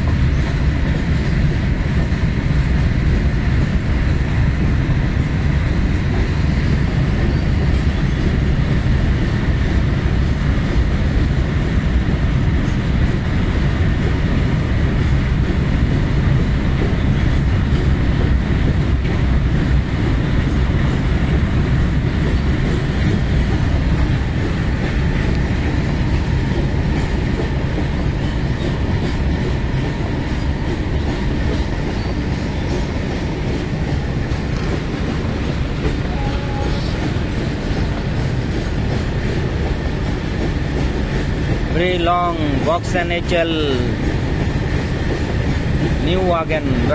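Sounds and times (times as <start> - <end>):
clickety-clack over rail joints: 0.0 - 46.9
train wheels rumbling on rails: 0.0 - 46.9.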